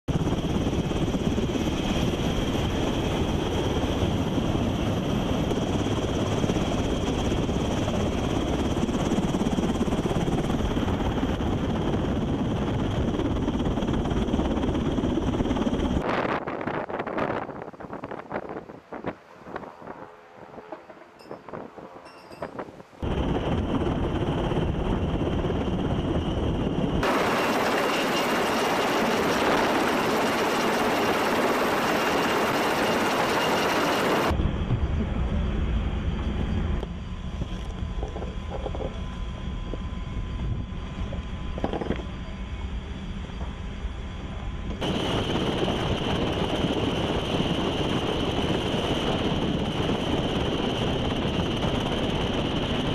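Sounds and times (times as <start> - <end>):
helicopter hovering: 0.1 - 16.7, 18.0 - 52.9
wind on microphone: 0.1 - 42.7, 44.7 - 52.9.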